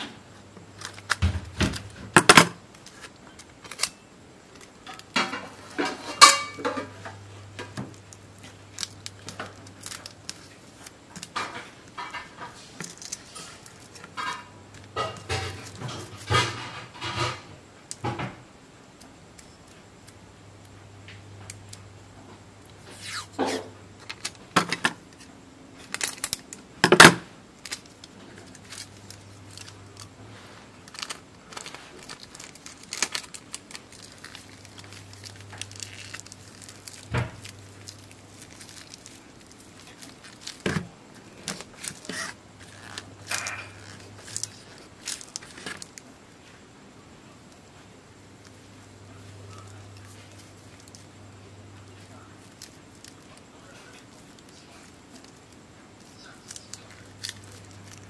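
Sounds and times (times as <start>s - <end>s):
wrapping paper rustling and crinkling: 0.6s - 17.5s, 22.8s - 46.6s, 48.4s - 58.0s.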